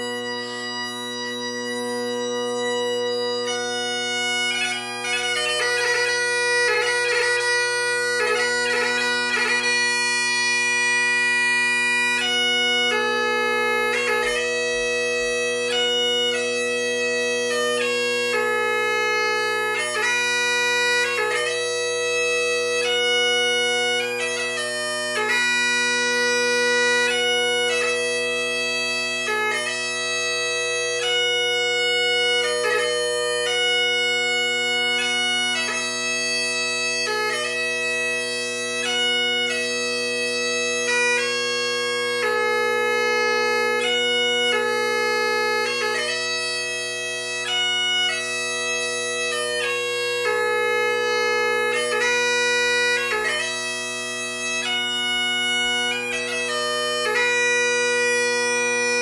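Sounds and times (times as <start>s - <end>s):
bagpipe playing: 0.0s - 59.0s.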